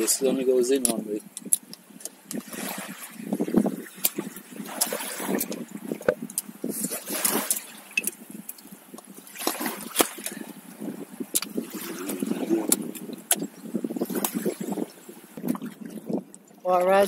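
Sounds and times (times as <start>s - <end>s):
water trickling: 0.0s - 17.0s
paddle dipping and splashing: 1.3s - 16.8s.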